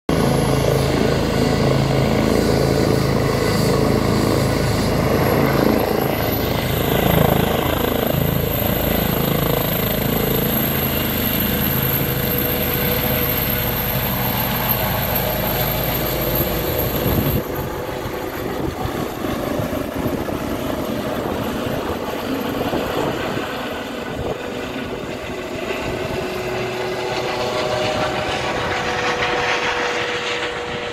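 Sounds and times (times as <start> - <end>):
helicopter rotor blades beating: 0.1 - 30.9
helicopter turbines whining: 0.1 - 30.9.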